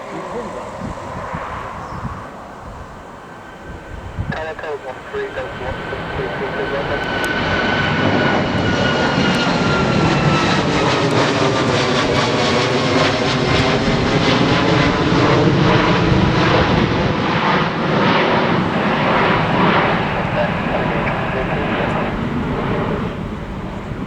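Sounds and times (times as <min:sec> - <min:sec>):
airliner engines whining: 0:00.0 - 0:24.0.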